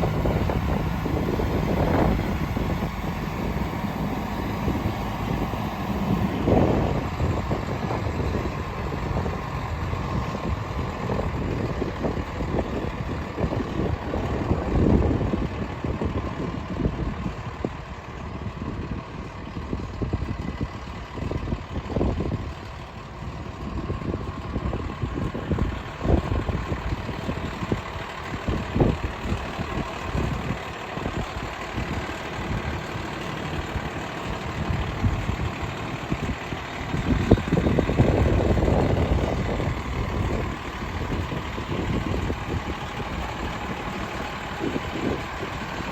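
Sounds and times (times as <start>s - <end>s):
truck diesel engine idling: 0.0s - 45.9s.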